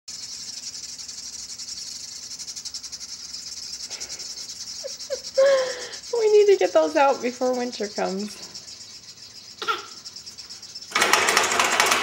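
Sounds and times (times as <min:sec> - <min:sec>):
high-pitched chirring chorus: 0:00.1 - 0:11.0.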